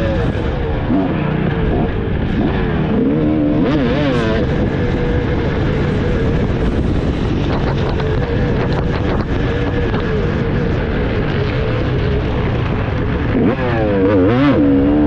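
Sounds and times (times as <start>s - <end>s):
motocross bike engine revving: 0.0s - 15.0s
wind noise on microphone: 0.0s - 15.0s.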